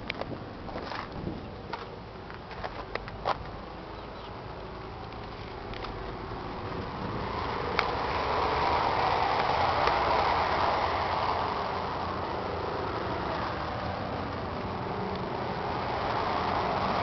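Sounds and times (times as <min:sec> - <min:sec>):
tractor diesel engine droning: 0:02.9 - 0:17.0.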